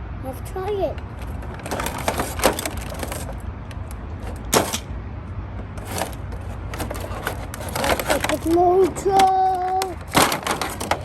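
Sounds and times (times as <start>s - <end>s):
plastic toy car clicks and knocks: 1.2s - 4.9s, 5.8s - 11.0s.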